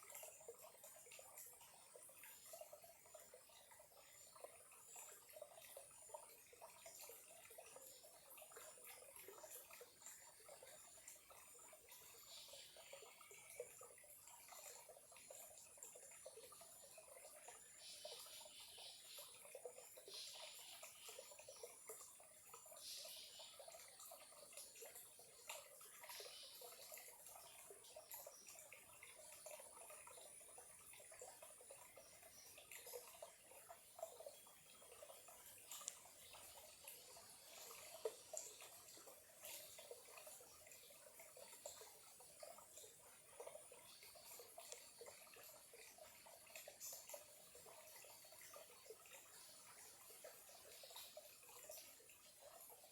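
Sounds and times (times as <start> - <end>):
small stream trickling: 0.0 - 52.9
water drips and splashes: 0.0 - 52.9.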